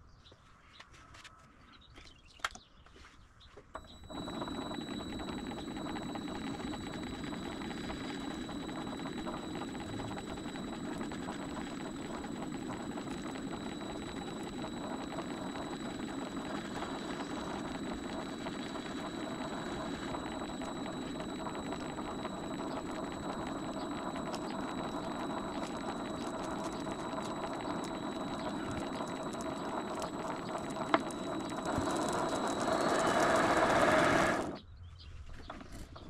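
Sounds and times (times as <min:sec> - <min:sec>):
lathe belts and gears whirring: 0:03.7 - 0:34.6
high-pitched whine: 0:03.8 - 0:34.7.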